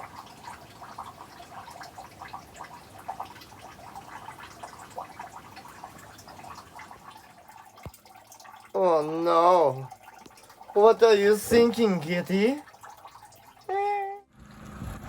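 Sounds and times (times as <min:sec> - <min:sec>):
water dripping and trickling: 0:00.0 - 0:14.2.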